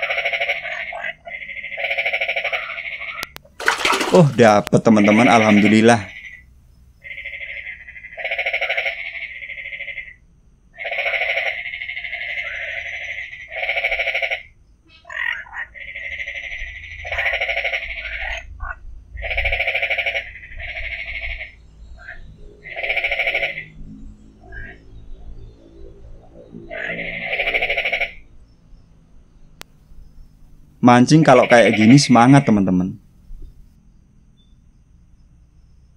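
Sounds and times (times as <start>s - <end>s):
frogs calling: 0.0s - 35.9s.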